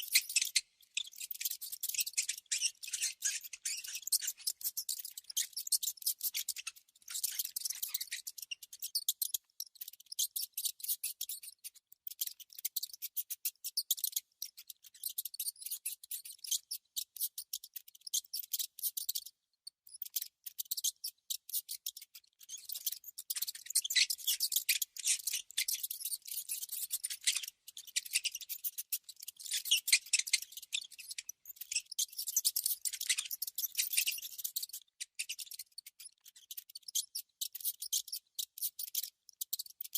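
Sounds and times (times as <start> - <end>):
mouse scratching and clicking: 0.0 - 19.3, 19.9 - 39.9.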